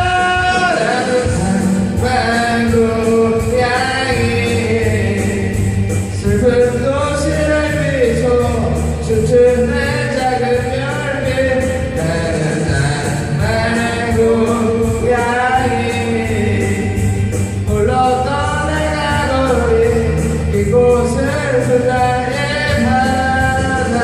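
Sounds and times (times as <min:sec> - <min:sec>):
instrumental rock backing: 0:00.0 - 0:24.0
person singing rock song: 0:00.0 - 0:24.0.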